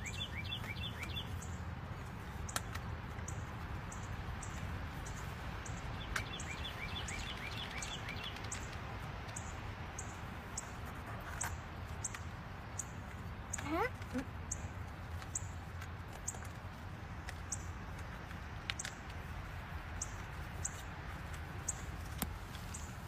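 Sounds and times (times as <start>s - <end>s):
birds chirping: 0.0s - 16.6s, 17.3s - 19.1s, 19.9s - 21.0s, 21.6s - 23.0s.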